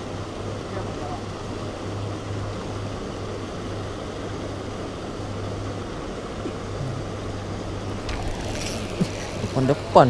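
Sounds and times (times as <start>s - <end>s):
continuous noise: 0.0s - 10.0s
low machine hum: 0.0s - 10.0s.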